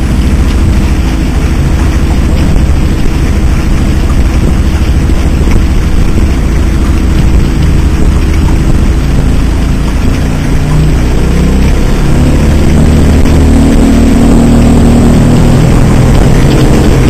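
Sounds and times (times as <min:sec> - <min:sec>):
even rushing noise: 0:00.0 - 0:17.0
outboard motor running: 0:00.0 - 0:17.0.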